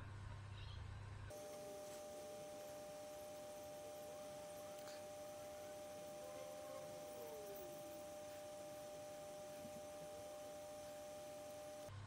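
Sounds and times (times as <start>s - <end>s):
low room hiss: 0.1s - 12.0s
two-note electrical whine: 1.3s - 12.0s.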